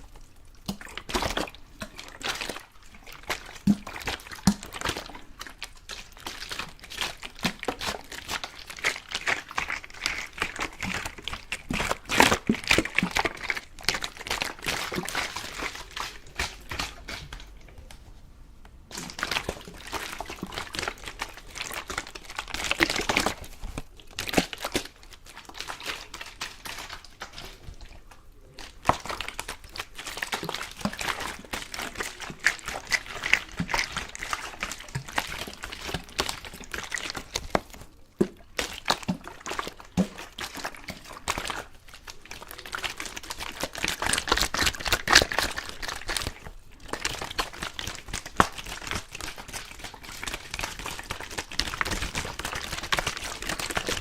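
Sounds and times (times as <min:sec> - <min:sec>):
water splashing and crackling: 0:00.0 - 0:18.1, 0:18.9 - 0:54.0.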